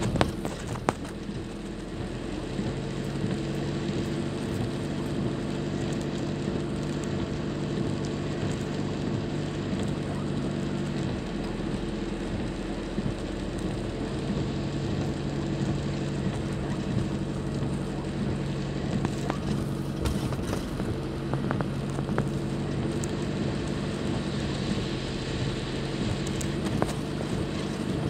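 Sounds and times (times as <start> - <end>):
tyre noise on wet road: 0.0 - 28.0
vehicle engine hum: 0.0 - 28.0.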